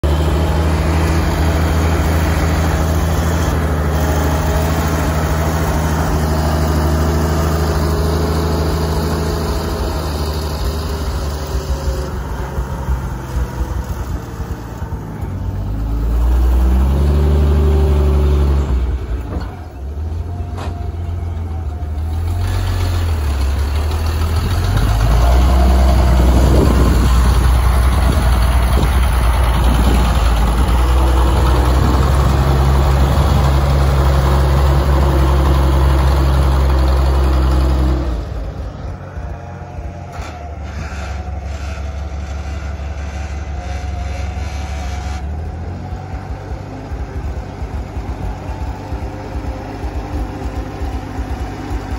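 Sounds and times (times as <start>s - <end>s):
wheel loader engine revving: 0.0s - 51.9s.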